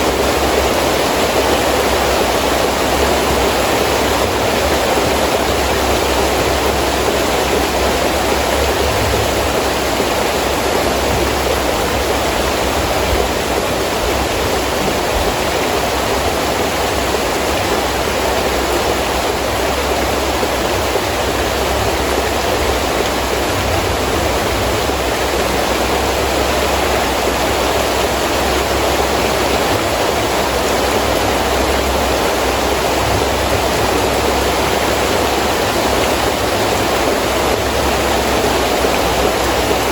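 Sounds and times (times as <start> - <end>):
heavy rain with wind: 0.0 - 39.9.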